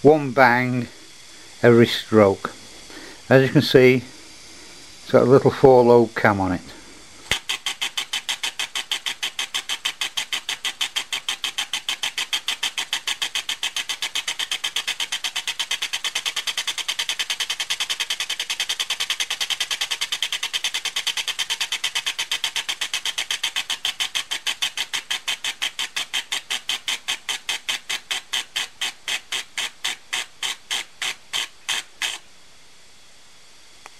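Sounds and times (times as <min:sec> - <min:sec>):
air engine exhaust puffs: 0:00.0 - 0:32.3.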